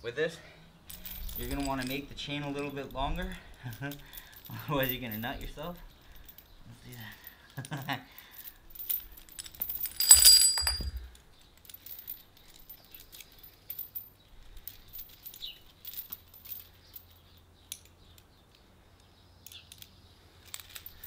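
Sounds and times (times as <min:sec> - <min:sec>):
chain links clinking: 0:00.7 - 0:21.0.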